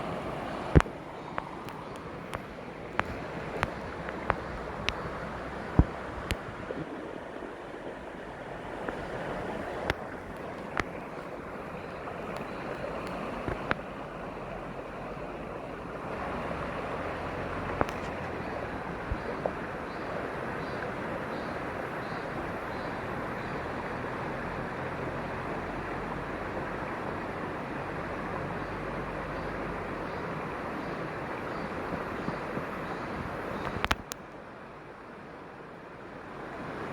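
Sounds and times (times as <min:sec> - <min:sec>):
stream water rushing: 0:00.0 - 0:36.9.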